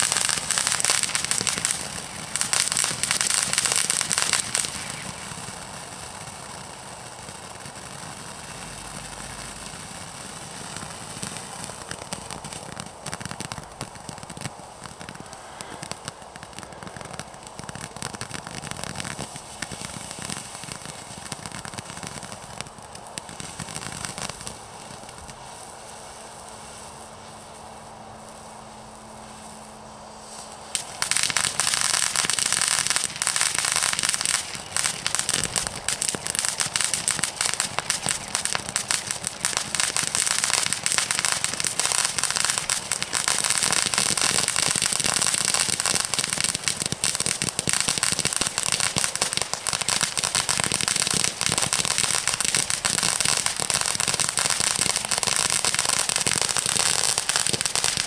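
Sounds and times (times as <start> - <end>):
firework fountain crackling: 0.0 - 58.0.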